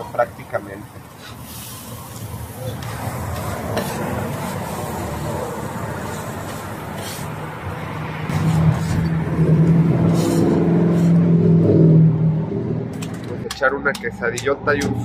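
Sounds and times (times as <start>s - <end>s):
engine humming: 1.9s - 15.0s.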